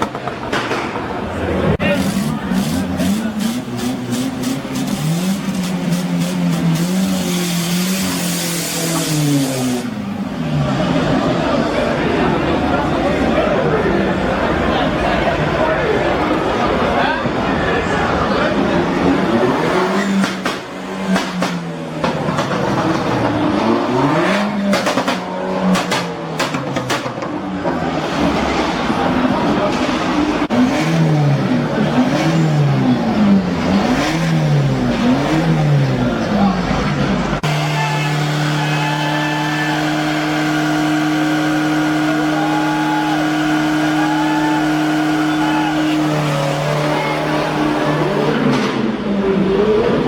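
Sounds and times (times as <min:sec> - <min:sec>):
car engine revving: 0:01.3 - 0:50.0.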